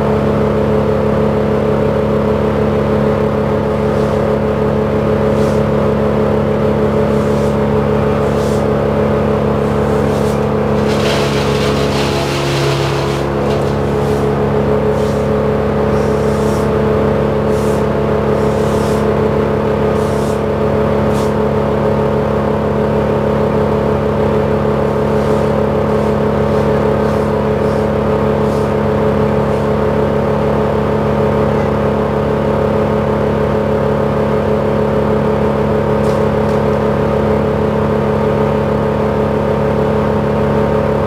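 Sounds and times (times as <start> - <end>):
crane engine running: 0.0 - 41.0.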